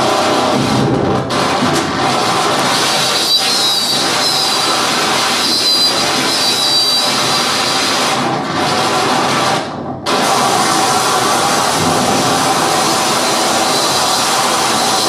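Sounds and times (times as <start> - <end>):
harsh noise music: 0.0 - 15.0.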